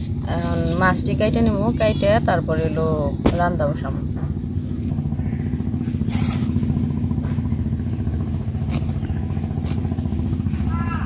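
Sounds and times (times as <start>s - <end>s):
engine running with fast pulse: 0.0s - 11.0s.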